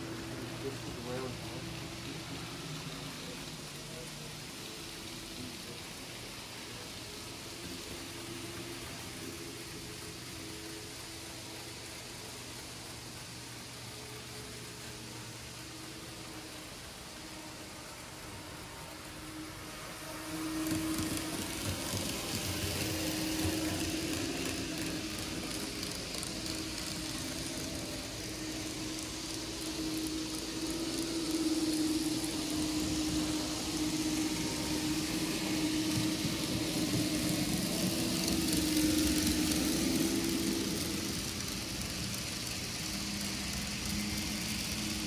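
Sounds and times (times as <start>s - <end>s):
hiss: 0.0s - 45.0s
model train mechanical hum: 0.0s - 45.0s.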